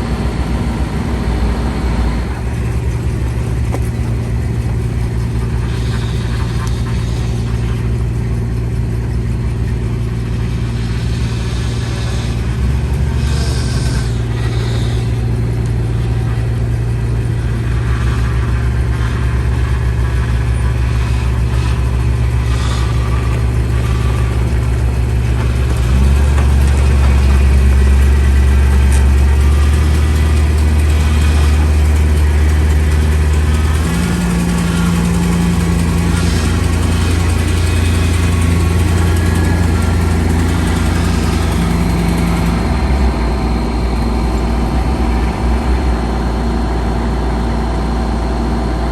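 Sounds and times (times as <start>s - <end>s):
motor vehicle engine running: 0.0s - 48.9s.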